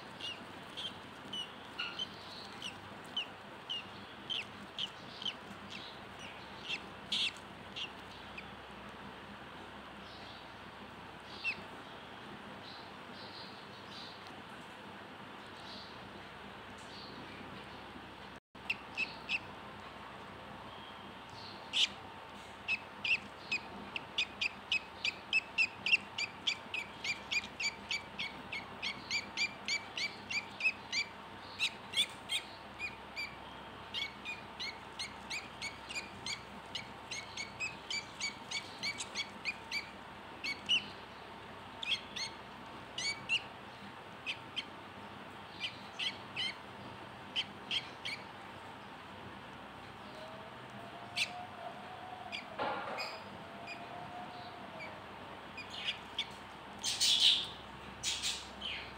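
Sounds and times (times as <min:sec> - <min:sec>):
bird chicks peeping: 0:00.0 - 0:14.4, 0:18.6 - 0:19.7, 0:20.6 - 0:49.1, 0:49.8 - 0:58.9.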